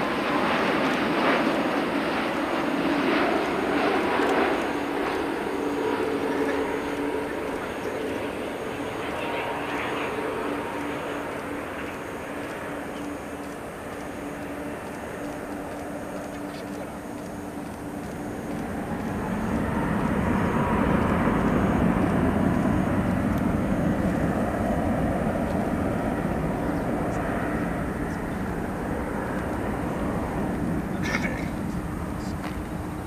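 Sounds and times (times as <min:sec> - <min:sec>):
distant jet engines rumbling: 0:00.0 - 0:33.0.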